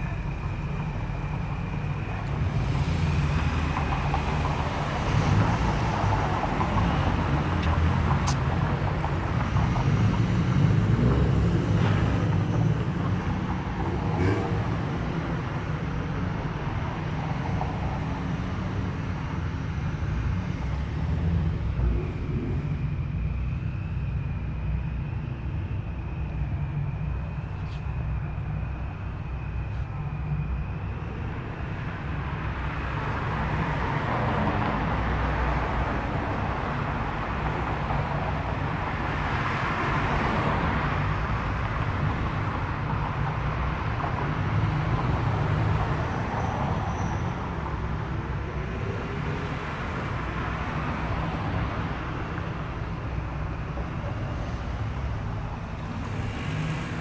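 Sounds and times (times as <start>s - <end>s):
car engines rumbling: 0.0s - 57.0s.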